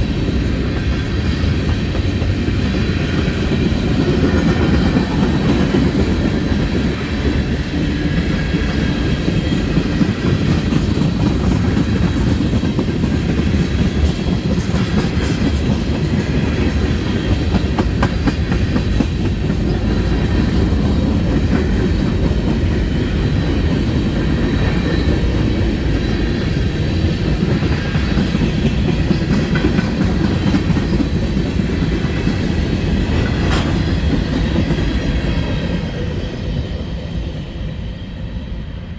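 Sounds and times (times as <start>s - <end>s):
rail clicks: 0.0s - 36.9s
freight train wheels rumbling: 0.0s - 38.9s.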